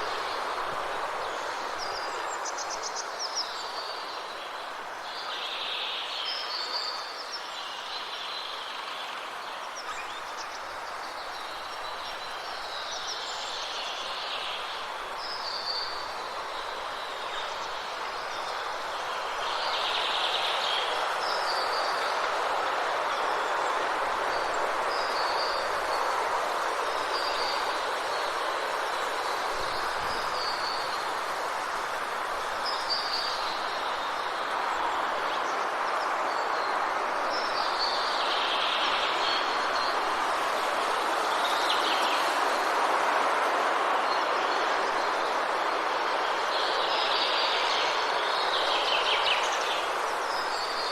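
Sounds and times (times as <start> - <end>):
rushing forest ambience: 0.0 - 50.9.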